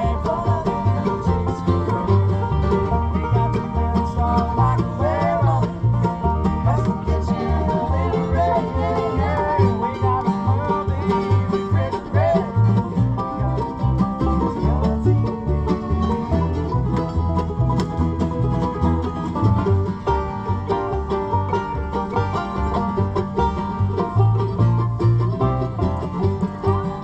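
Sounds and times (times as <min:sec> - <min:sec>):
acoustic bluegrass band playing: 0:00.0 - 0:27.0.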